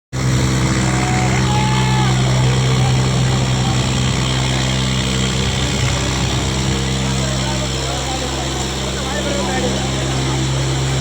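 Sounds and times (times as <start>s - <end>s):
tractor diesel engine running: 0.1s - 11.0s.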